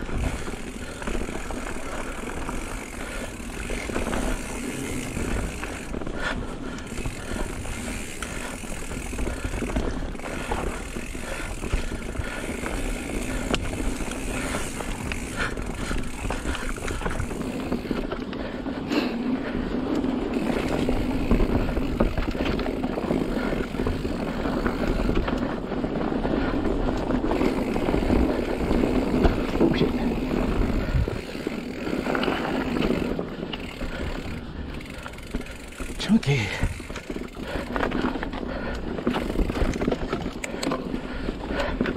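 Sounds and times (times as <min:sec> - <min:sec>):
bike rattling: 0:00.0 - 0:41.9
bike tyres crunching over rocks: 0:00.0 - 0:41.9.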